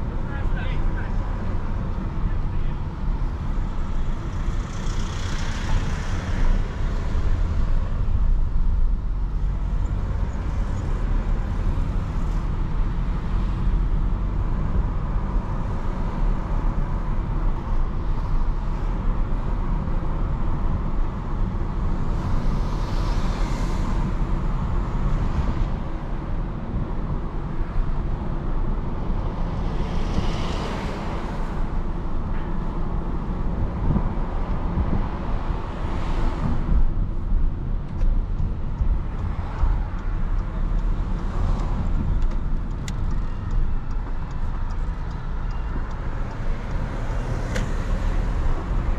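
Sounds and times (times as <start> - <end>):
car engine and tyre rumble: 0.0 - 48.9.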